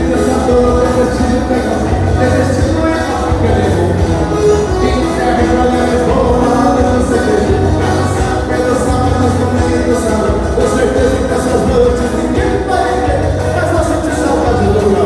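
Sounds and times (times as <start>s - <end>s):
live dance band: 0.0s - 15.0s
person singing: 0.0s - 15.0s
strong bass line: 0.0s - 15.0s.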